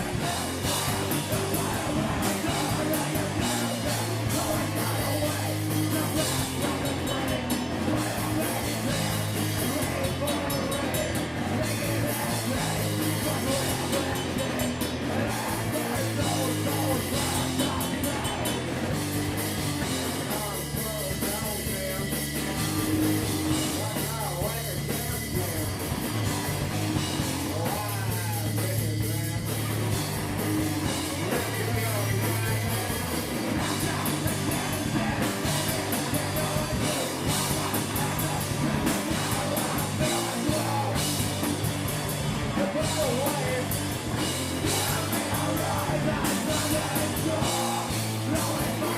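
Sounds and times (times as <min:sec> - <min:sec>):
person singing: 0:00.0 - 0:25.9, 0:27.0 - 0:48.9
bass: 0:00.0 - 0:48.9
drums: 0:00.0 - 0:48.9
guitar: 0:00.0 - 0:48.9.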